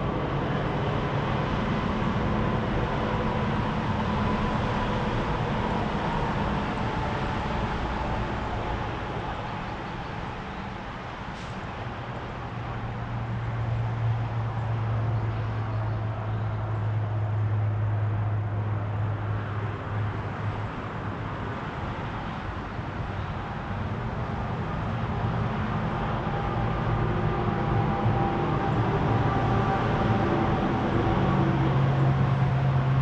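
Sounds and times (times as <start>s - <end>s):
low engine hum: 0.0s - 33.0s
road traffic passing: 0.0s - 33.0s.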